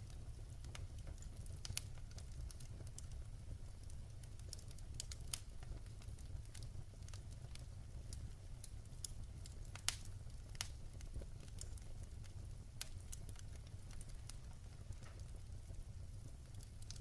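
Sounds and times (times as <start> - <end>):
firewood burning and popping: 0.0 - 17.0.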